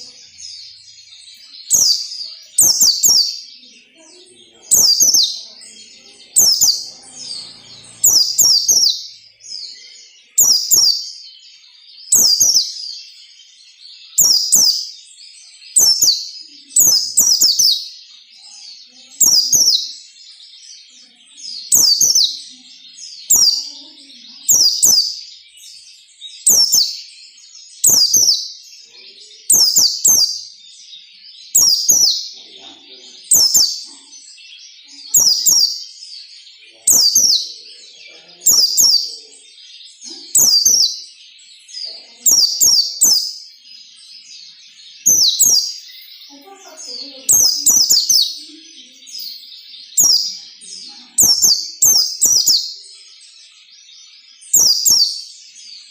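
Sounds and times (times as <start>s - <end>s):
bird singing high-pitched phrases: 0.0s - 55.9s.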